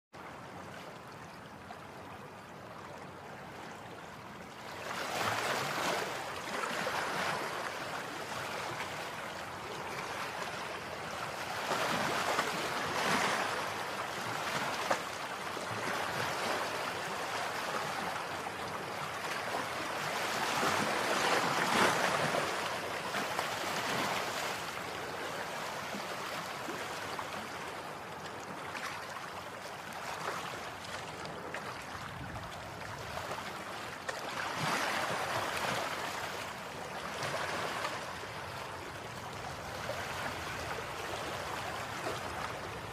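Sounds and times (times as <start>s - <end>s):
rushing water: 0.2s - 42.9s.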